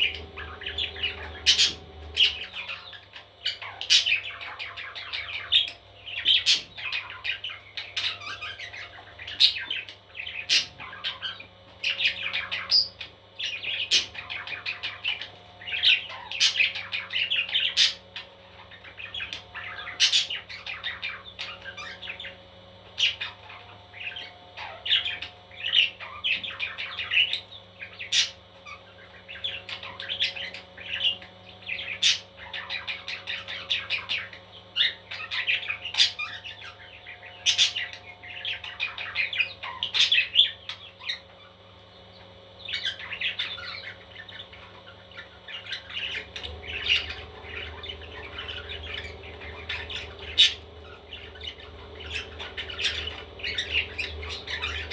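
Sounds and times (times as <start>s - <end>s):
baby parrots chirping and squawking: 0.0s - 54.9s.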